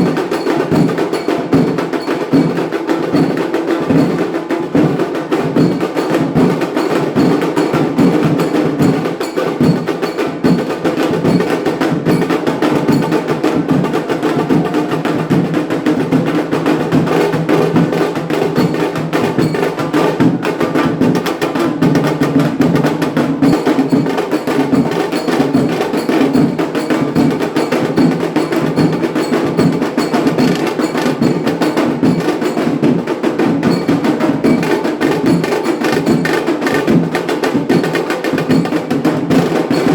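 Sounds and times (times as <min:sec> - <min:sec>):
drums and hand percussion: 0:00.0 - 0:39.9
wedding band playing: 0:00.0 - 0:39.9.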